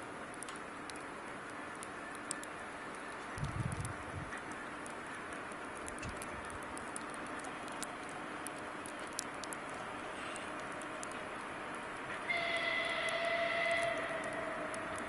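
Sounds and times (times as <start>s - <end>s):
distant diesel locomotive drone: 0.0s - 15.0s
light sharp ticks: 0.3s - 15.0s.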